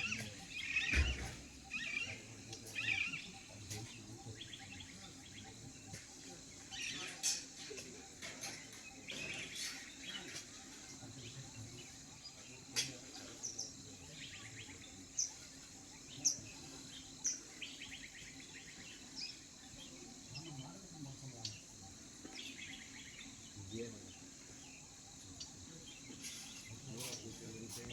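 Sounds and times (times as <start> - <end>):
birds chirping and trilling: 0.0 - 27.9.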